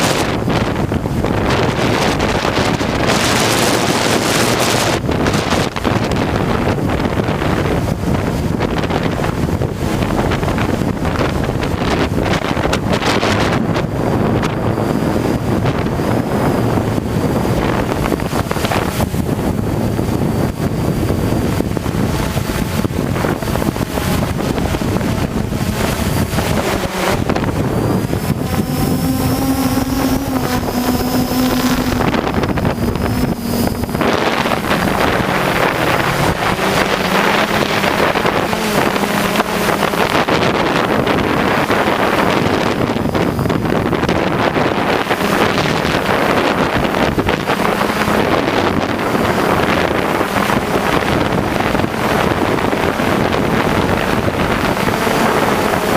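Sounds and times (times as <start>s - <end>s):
drone motors humming: 0.0s - 55.9s
wind buffeting microphone: 0.0s - 55.9s.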